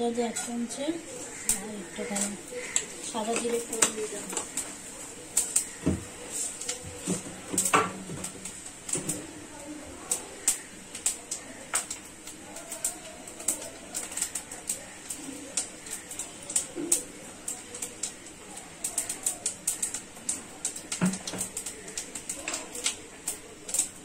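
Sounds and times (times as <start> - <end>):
seeds popping in hot oil: 0.0 - 24.0.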